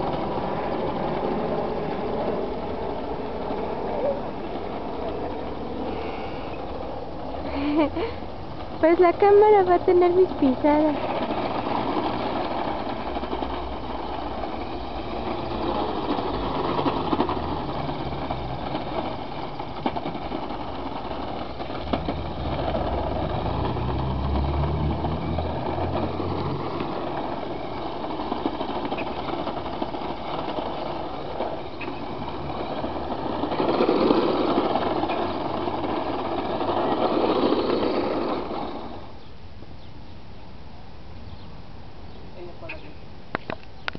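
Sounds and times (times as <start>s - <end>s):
small model car engine: 0.0s - 39.2s.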